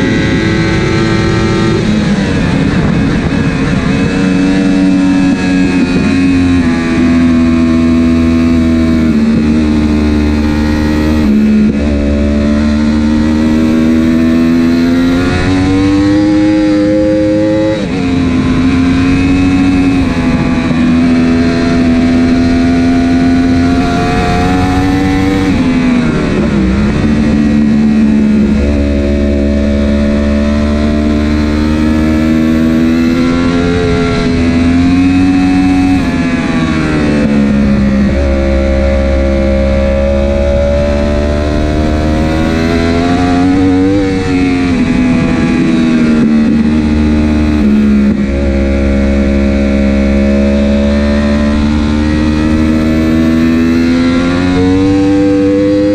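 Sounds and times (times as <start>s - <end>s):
superbike engine at high revs: 0.0s - 55.9s.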